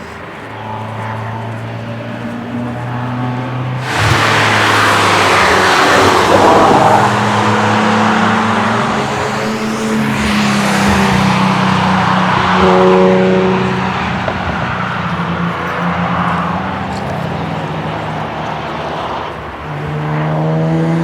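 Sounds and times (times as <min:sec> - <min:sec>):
race cars driving past: 0:00.0 - 0:21.0.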